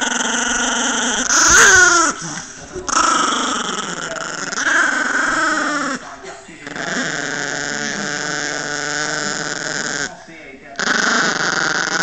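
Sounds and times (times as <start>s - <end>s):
small dog snarling: 0.0s - 6.0s, 6.6s - 10.2s, 10.8s - 12.0s
small dog growling: 0.0s - 10.2s, 10.8s - 12.0s.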